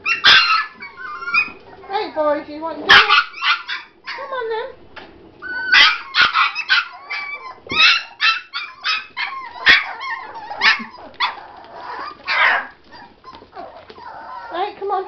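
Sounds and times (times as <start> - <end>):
puppies yapping: 0.0 - 2.1, 2.9 - 4.4, 5.4 - 14.8.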